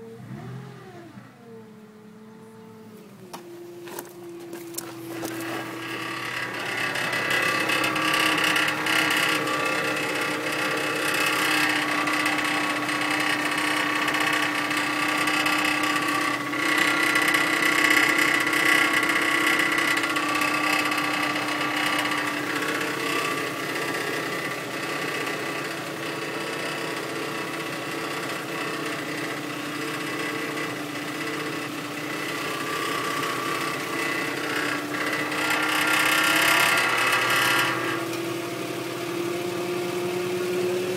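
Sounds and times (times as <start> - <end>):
steady mechanical buzz: 0.0 - 40.9.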